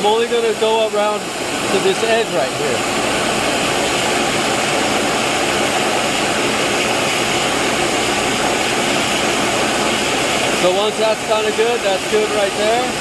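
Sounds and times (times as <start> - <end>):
vacuum running: 0.0 - 13.0.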